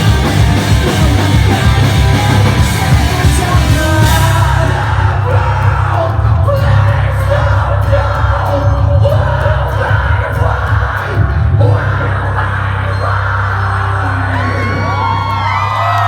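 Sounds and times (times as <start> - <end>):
heavy bass and drums: 0.0 - 16.0
yelled and sung vocals: 0.0 - 16.0.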